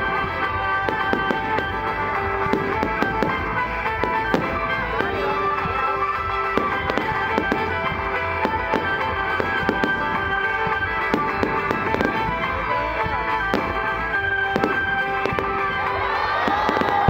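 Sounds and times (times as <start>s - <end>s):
firework shells bursting: 0.0s - 17.0s
music playing: 0.0s - 17.0s.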